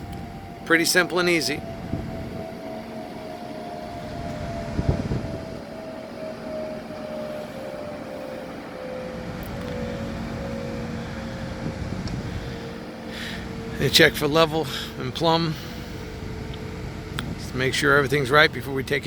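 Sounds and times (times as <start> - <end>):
machinery engine humming: 0.0 - 19.0.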